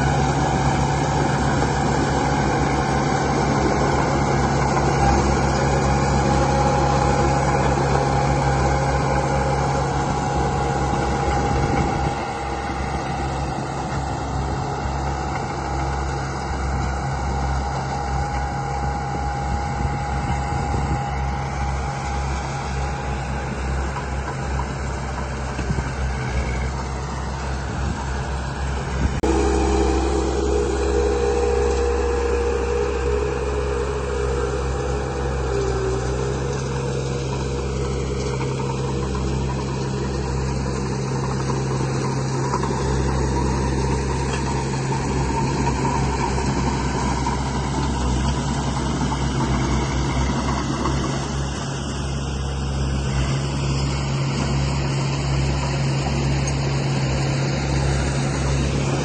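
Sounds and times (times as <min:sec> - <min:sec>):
model vehicle engine hum: 0:00.0 - 0:59.0
motor whine: 0:00.0 - 0:59.0.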